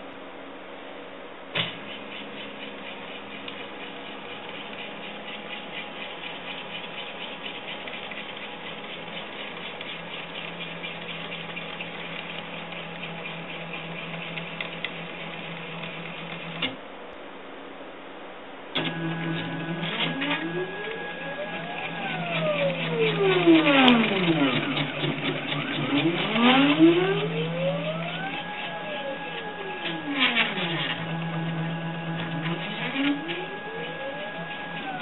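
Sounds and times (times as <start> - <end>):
stepper motors whirring and ticking: 1.6 - 16.8, 18.8 - 35.0.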